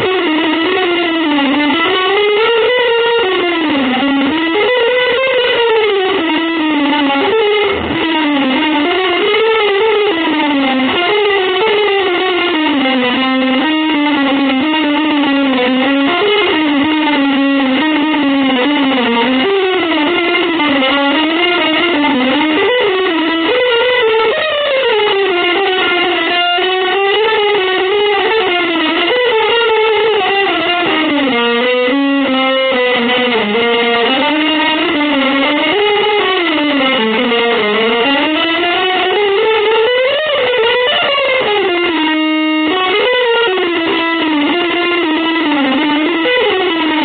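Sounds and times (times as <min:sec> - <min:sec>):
electric guitar melody: 0:00.0 - 0:47.0.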